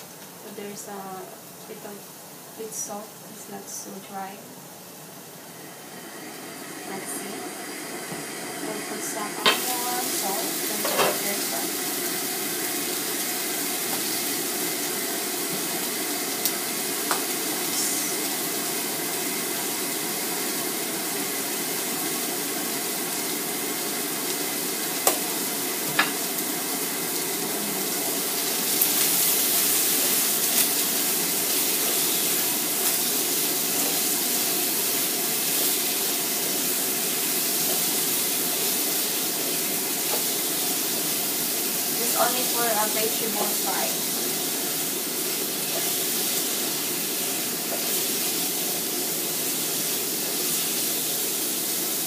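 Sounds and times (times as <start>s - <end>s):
vegetables sizzling in a frying pan: 0.0s - 52.0s.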